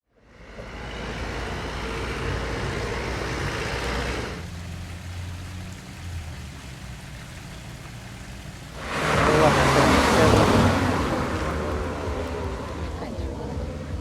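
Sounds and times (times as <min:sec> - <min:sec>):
rally car engine: 0:00.0 - 0:14.0
road noise: 0:00.0 - 0:14.0.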